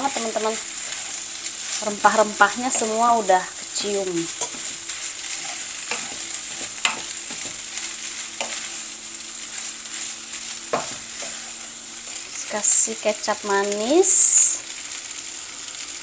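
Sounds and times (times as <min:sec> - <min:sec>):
spatula stirring and scraping: 0:00.0 - 0:13.0
fried rice sizzling in a pan: 0:00.0 - 0:16.0.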